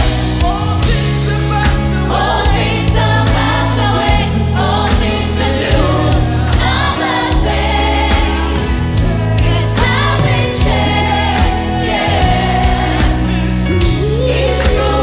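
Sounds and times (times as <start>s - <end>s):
bass notes: 0.0s - 15.0s
choir singing: 0.0s - 15.0s.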